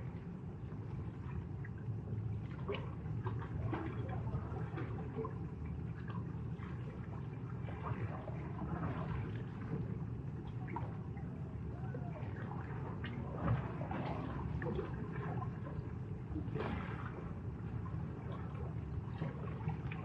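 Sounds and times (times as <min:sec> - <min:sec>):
small waves lapping at shore: 0:02.4 - 0:20.0.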